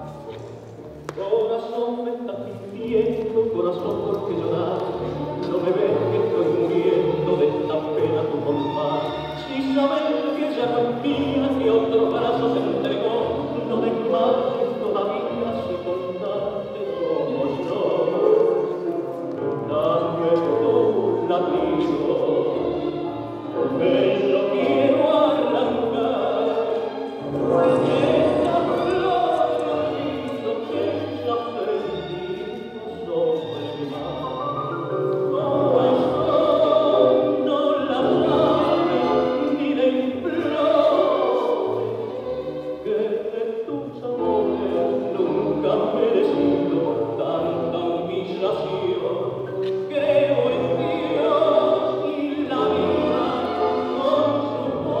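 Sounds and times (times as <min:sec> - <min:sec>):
song with instrumental accompaniment: 0:00.0 - 0:55.0.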